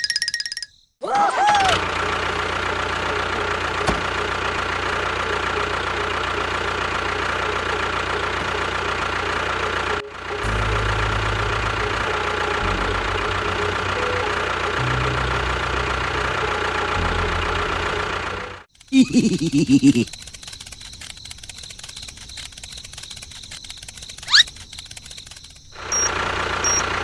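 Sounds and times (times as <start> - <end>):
small vehicle engine whining: 1.4 - 27.0.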